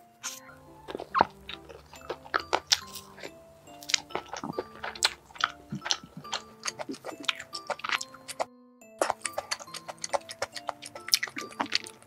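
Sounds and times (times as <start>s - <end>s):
background music with bell-like notes: 0.0s - 12.0s
sticky eating clicks and smacks: 0.8s - 12.0s.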